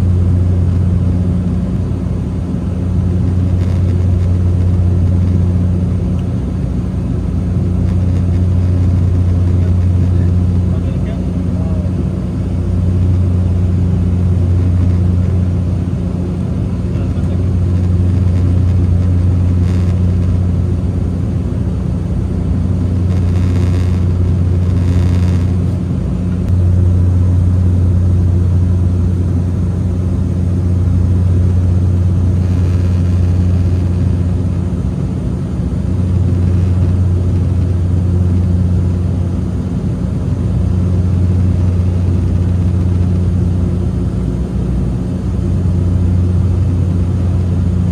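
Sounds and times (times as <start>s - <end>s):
airliner engine drone in cabin: 0.0s - 47.9s.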